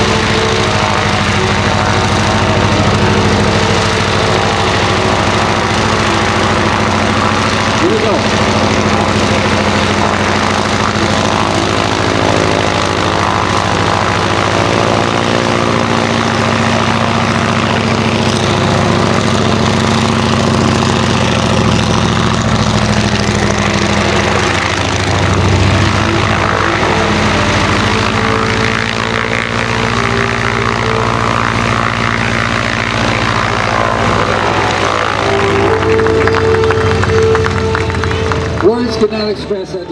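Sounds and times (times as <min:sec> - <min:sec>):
radial engine and propeller running: 0:00.0 - 0:39.9.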